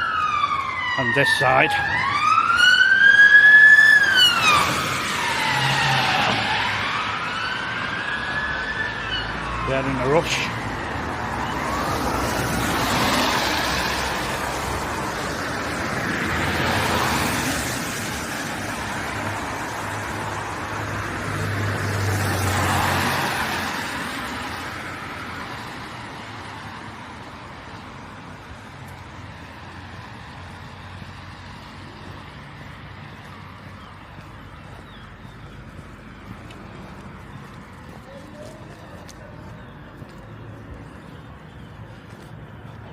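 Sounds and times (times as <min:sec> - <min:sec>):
vehicles passing by: 0:00.0 - 0:42.9.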